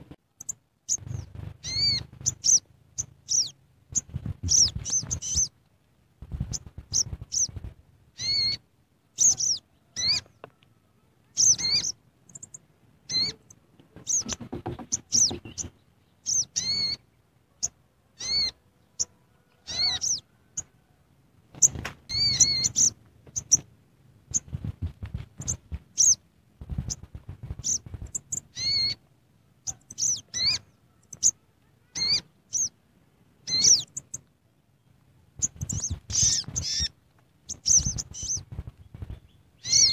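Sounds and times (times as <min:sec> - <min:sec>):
bird chirping: 0:00.0 - 0:05.6, 0:06.3 - 0:20.9, 0:21.5 - 0:23.7, 0:24.3 - 0:32.8, 0:33.4 - 0:39.9.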